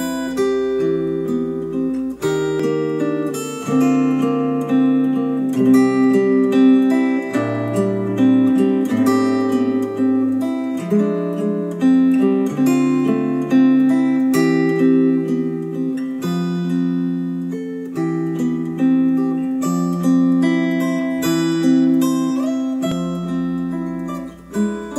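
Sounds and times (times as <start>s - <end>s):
acoustic guitar music: 0.0s - 24.9s.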